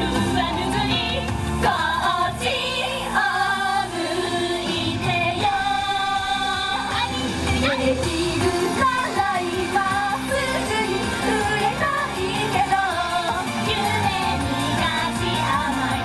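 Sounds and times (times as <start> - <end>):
pop backing track: 0.0 - 16.0
women singing: 0.0 - 16.0.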